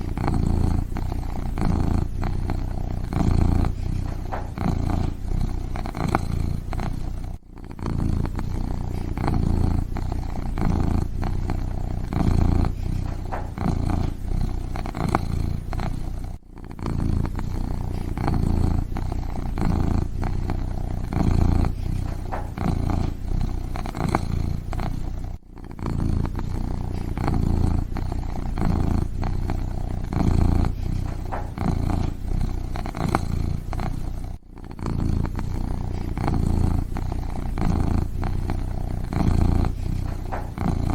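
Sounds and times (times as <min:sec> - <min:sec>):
kitten purring: 0:00.0 - 0:40.9.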